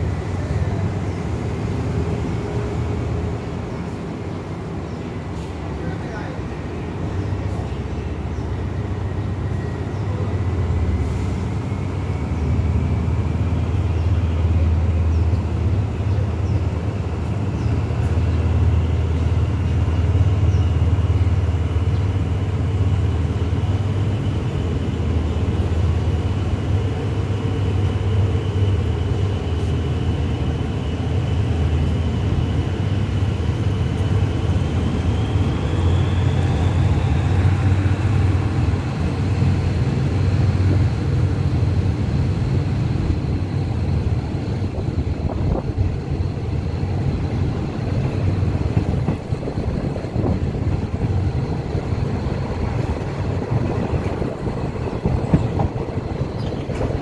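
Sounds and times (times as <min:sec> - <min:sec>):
train low drone: 0:00.0 - 0:57.0.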